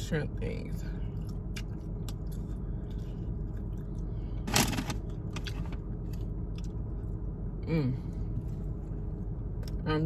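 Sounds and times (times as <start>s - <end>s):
low hum inside car: 0.0s - 10.0s.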